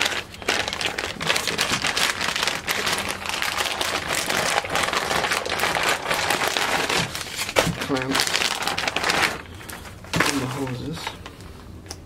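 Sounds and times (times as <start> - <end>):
plastic bags crinkling: 0.0 - 11.4.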